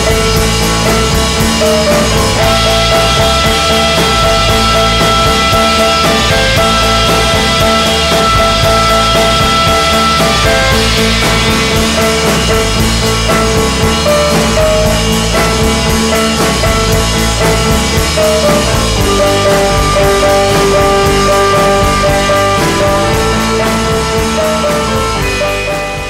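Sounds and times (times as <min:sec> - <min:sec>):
drum kit beat: 0:00.0 - 0:26.0
held melodic notes: 0:00.0 - 0:26.0.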